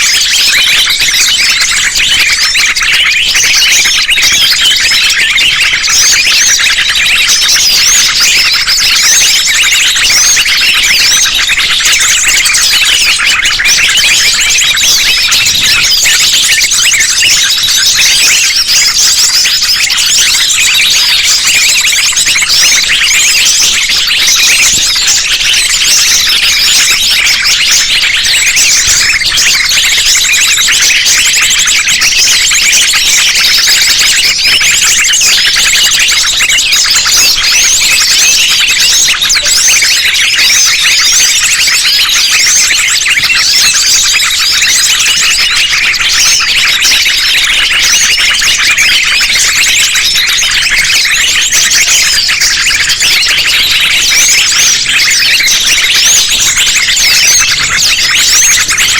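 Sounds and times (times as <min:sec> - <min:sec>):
chorus of small birds chirping: 0:00.0 - 0:58.9.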